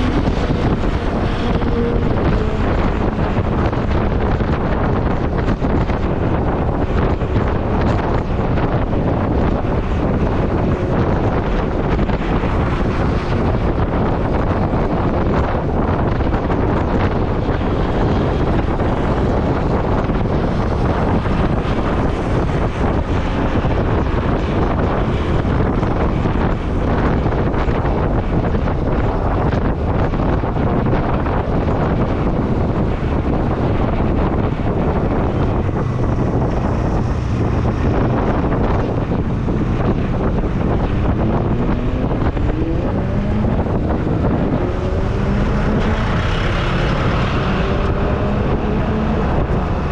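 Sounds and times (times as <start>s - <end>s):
motorcycle running noise: 0.0s - 49.9s
wind rushing over microphone: 0.0s - 49.9s.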